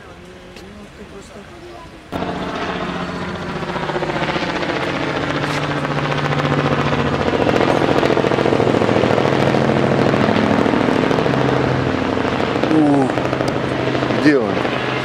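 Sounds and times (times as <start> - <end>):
helicopter rotor beat: 2.1 - 15.0.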